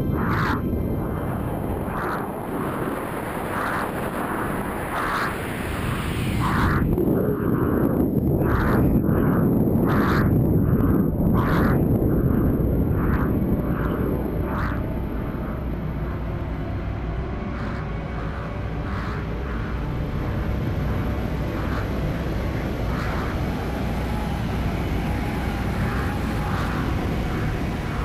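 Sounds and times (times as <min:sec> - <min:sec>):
wind rushing on camera: 0:00.0 - 0:28.0.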